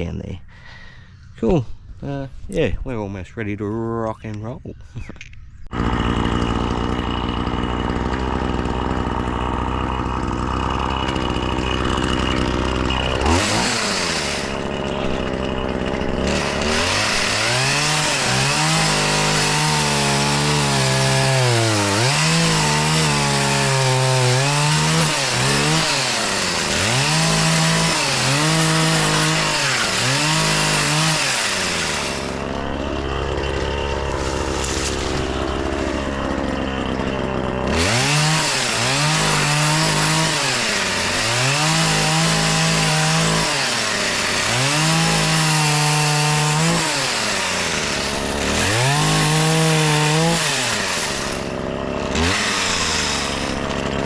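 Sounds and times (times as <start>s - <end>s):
chainsaw cutting into tree trunk: 5.7s - 54.0s
chainsaw idling and revving: 5.7s - 54.0s.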